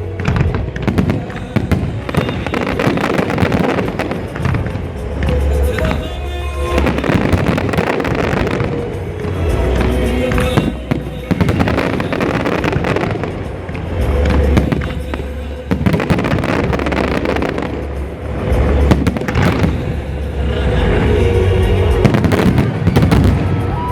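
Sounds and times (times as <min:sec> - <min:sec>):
fireworks crackling: 0:00.0 - 0:23.9
fireworks sharp bangs: 0:00.0 - 0:23.9.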